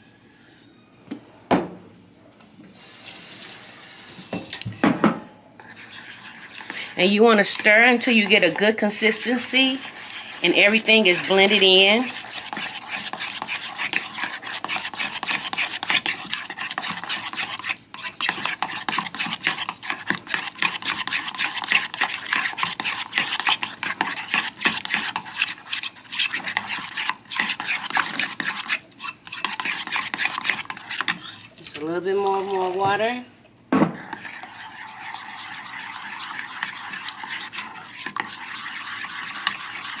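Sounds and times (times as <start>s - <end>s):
fork scraping ceramic bowl: 5.6s - 33.0s, 34.0s - 40.0s.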